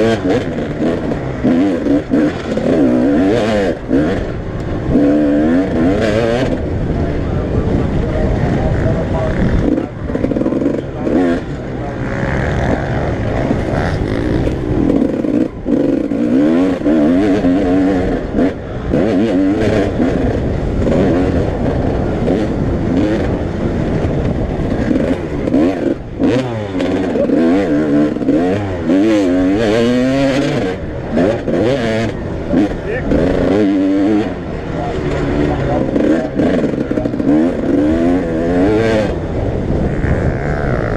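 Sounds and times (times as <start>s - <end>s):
motocross bikes revving: 0.0s - 40.9s.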